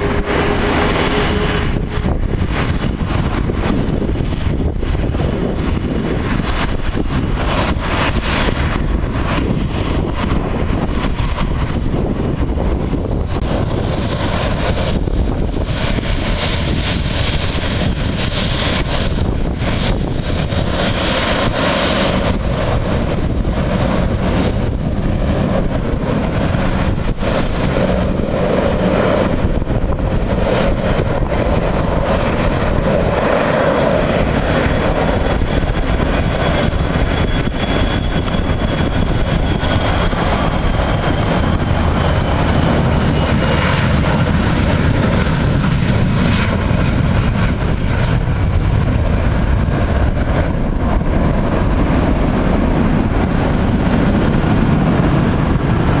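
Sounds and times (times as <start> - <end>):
high jet whine: 0.0 - 56.0
jet engines roaring: 0.0 - 56.0.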